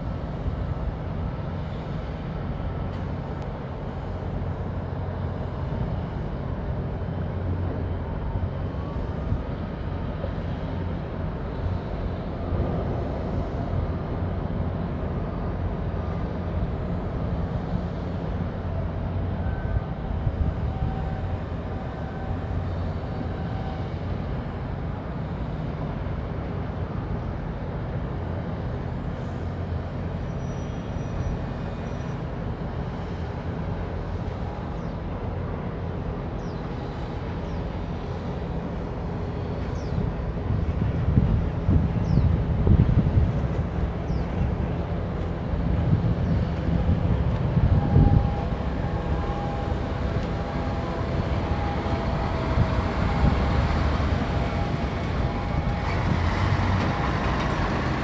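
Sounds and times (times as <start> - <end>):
low harbour rumble: 0.0 - 58.0.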